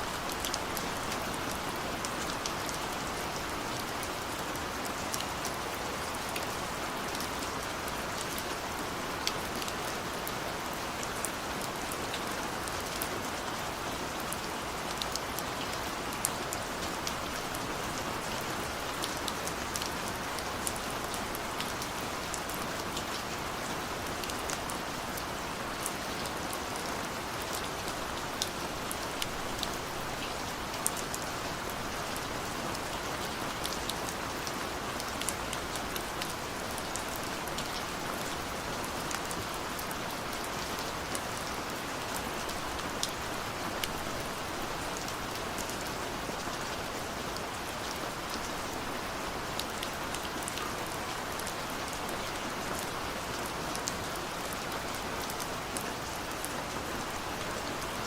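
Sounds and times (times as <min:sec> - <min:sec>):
hiss of rainfall: 0:00.0 - 0:58.0.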